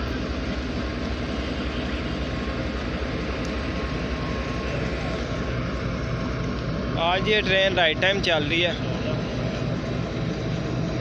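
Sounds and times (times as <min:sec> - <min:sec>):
diesel engine rumble: 0:00.0 - 0:11.0
train wheel and track noise: 0:00.0 - 0:11.0.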